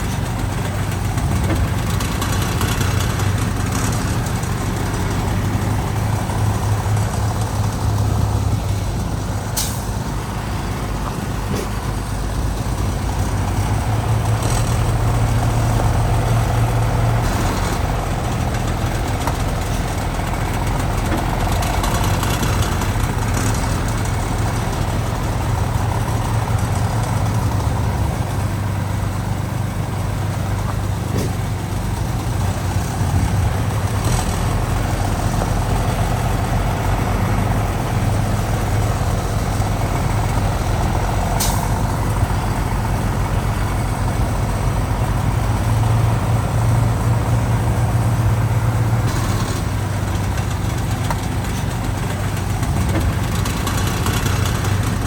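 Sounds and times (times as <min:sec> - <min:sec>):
diesel machinery engine drone: 0:00.0 - 0:55.0.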